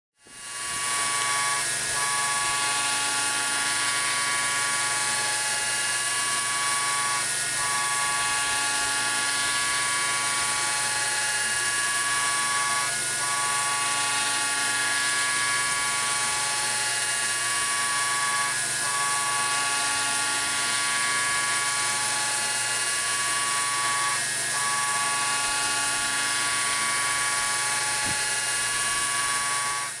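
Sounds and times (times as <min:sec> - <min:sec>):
milling machine spindle whine: 0:00.2 - 0:30.0.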